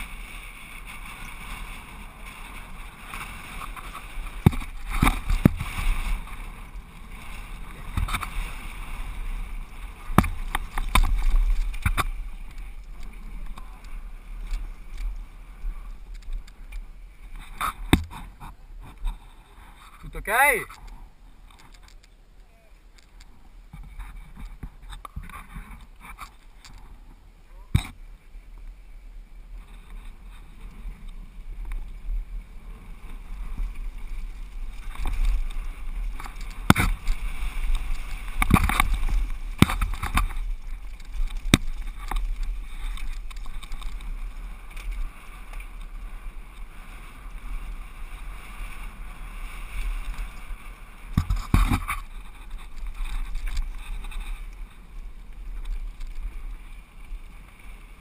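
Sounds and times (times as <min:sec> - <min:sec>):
bike rattling over bumps: 0:00.0 - 0:20.0, 0:29.7 - 0:57.4
wind rumbling on microphone: 0:00.0 - 0:58.0.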